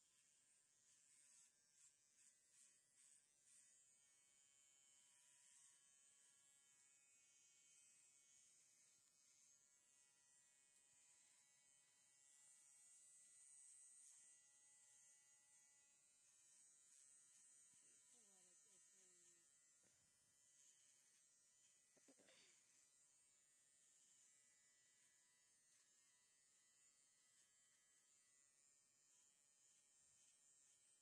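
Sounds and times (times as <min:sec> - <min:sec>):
electric clippers buzzing: 0:00.0 - 0:31.0.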